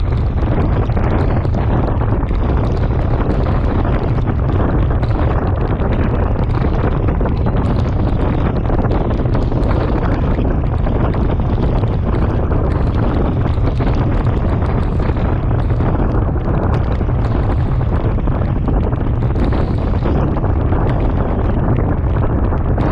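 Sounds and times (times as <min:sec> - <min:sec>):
rain hissing on wet road: 0:00.0 - 0:22.9
wind buffeting microphone: 0:00.0 - 0:22.9.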